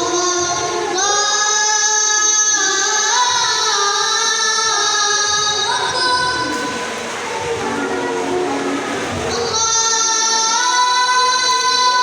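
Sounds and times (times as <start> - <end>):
child chanting melismatic vocal: 0.0 - 12.0.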